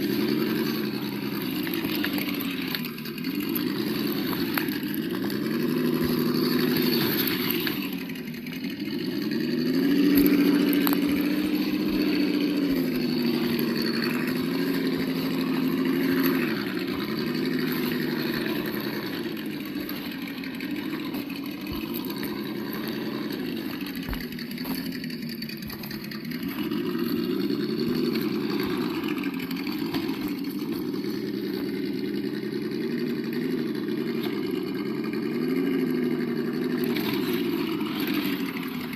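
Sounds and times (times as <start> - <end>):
simulated engine revving from speaker: 0.0 - 38.9.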